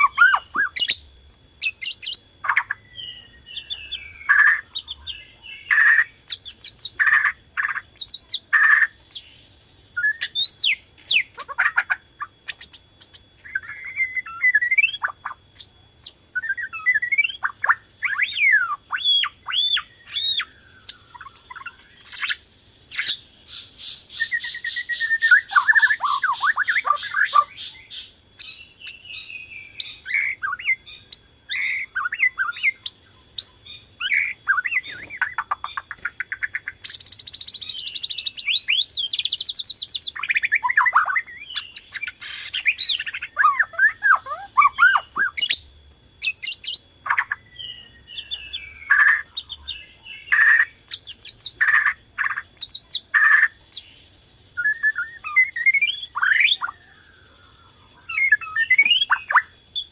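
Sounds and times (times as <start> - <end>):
bird singing whistled phrases: 0.0 - 9.4, 10.0 - 59.9.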